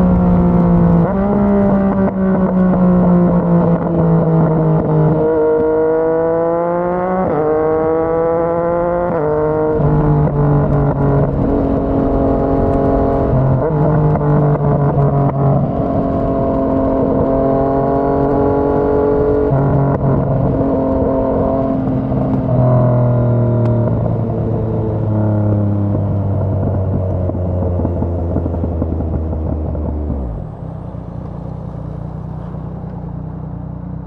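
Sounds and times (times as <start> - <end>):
motorcycle engine while riding: 0.0 - 34.0.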